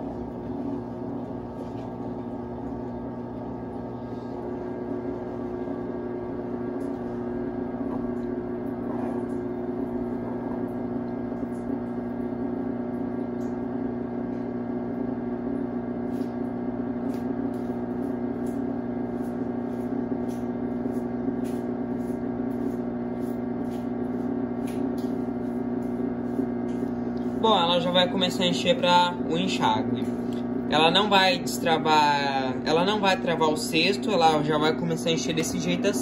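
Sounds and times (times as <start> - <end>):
washing machine humming: 0.0 - 36.0.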